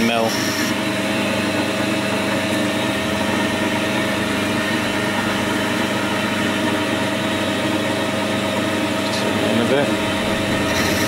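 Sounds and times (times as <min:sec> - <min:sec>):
metal lathe humming: 0:00.0 - 0:11.0.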